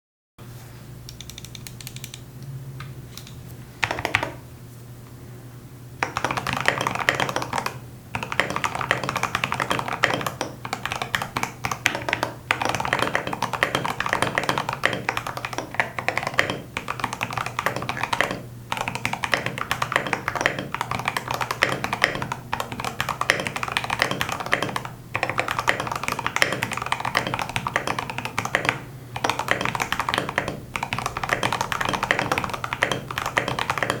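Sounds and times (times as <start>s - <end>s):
typing on mechanical keyboard: 1.1s - 2.2s, 3.2s - 4.4s, 6.0s - 34.0s.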